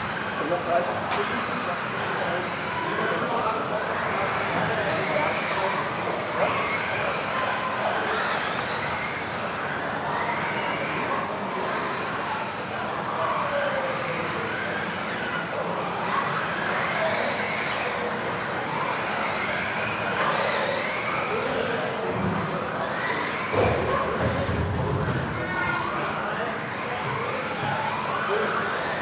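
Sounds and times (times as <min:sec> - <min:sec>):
electric motors whining: 0:00.0 - 0:29.0.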